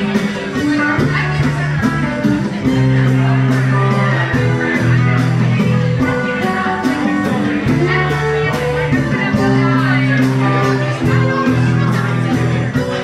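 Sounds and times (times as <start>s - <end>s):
acoustic guitar: 0.0s - 13.0s
drum kit: 0.0s - 13.0s
held low bass notes: 0.0s - 13.0s.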